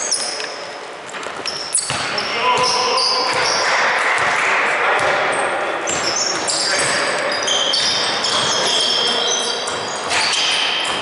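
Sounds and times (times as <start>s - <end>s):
sneaker squeaks on court: 0.0s - 0.6s, 1.2s - 4.4s, 5.0s - 11.0s
ball bouncing: 1.1s - 11.0s.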